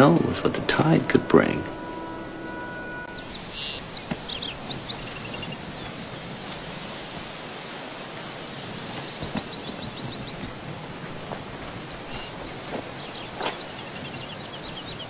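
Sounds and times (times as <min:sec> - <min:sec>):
birds chirping: 0:00.0 - 0:15.0
wind over a field: 0:00.0 - 0:15.0.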